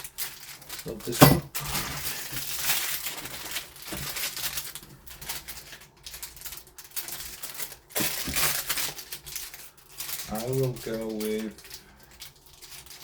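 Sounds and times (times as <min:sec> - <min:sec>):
plastic bags rustling: 0:00.0 - 0:13.0.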